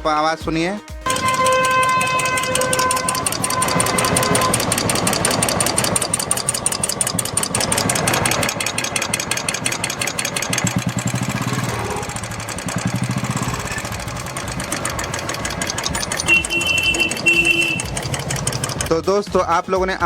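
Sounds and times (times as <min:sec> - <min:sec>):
rapid valve ticking: 0:01.1 - 0:19.7
motorcycle engine idling: 0:01.1 - 0:20.0.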